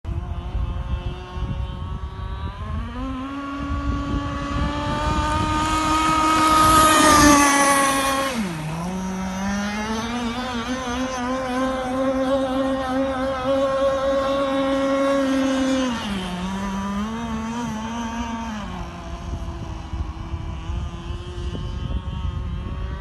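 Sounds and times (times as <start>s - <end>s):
racing boat engine at speed: 0.0s - 23.0s.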